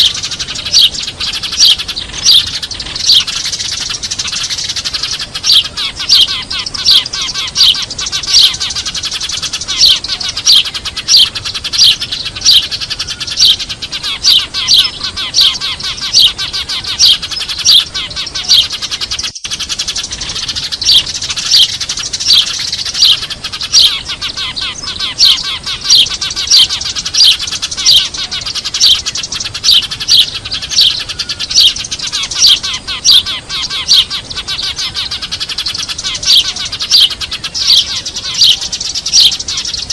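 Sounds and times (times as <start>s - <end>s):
flock of sparrows chirping: 0.0s - 39.9s.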